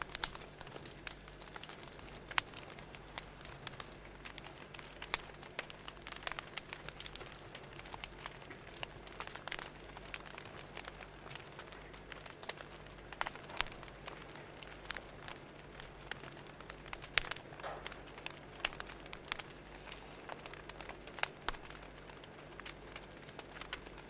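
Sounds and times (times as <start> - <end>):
faint steady hum: 0.0 - 24.0
fire crackling: 0.0 - 24.0.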